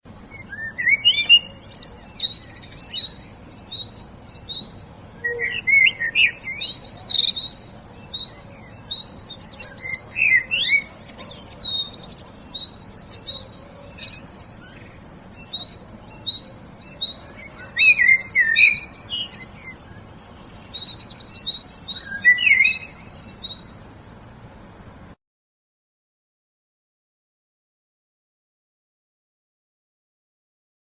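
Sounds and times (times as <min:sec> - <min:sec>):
birds chirping and trilling: 0:00.1 - 0:24.9.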